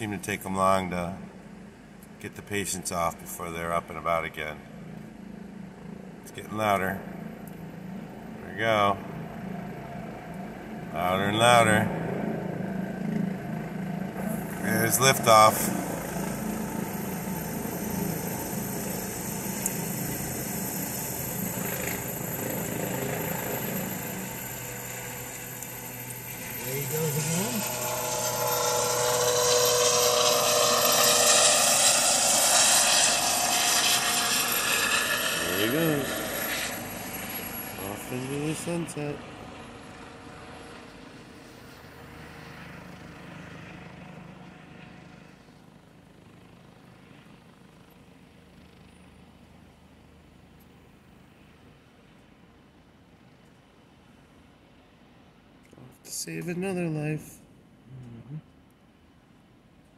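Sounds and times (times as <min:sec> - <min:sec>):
helicopter rotor and engine: 0:00.0 - 0:57.8.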